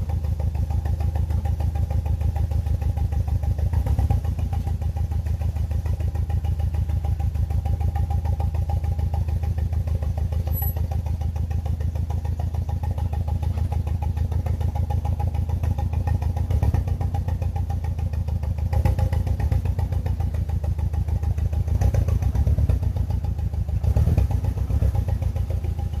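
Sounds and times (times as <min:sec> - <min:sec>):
car engine idling with misfire: 0:00.0 - 0:26.0.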